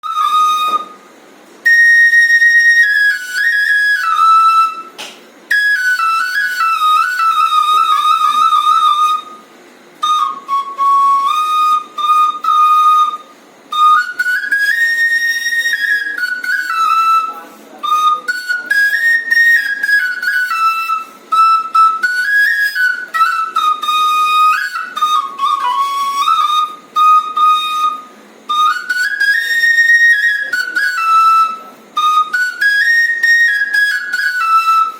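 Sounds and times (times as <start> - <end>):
bamboo flute melody: 0.0 - 34.9.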